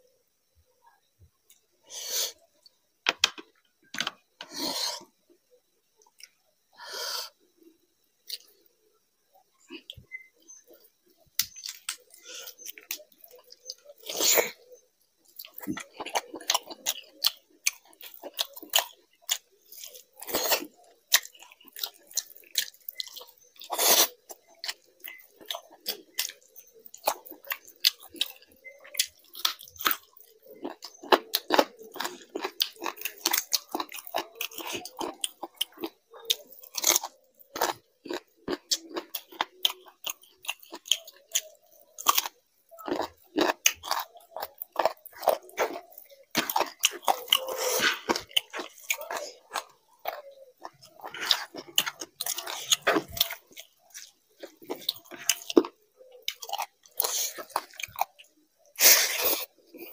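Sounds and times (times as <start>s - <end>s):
person chewing and smacking: 8.2s - 8.6s, 9.6s - 14.6s, 15.2s - 59.9s.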